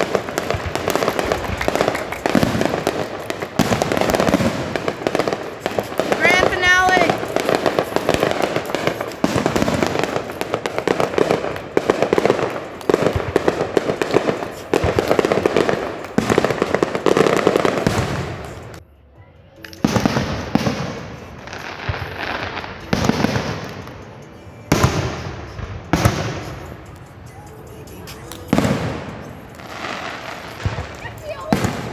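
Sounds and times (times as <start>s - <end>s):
fireworks bangs and crackles: 0.0s - 18.8s, 19.7s - 31.9s
fireworks booms: 0.0s - 18.8s, 19.8s - 24.0s, 24.6s - 27.1s, 28.3s - 31.9s.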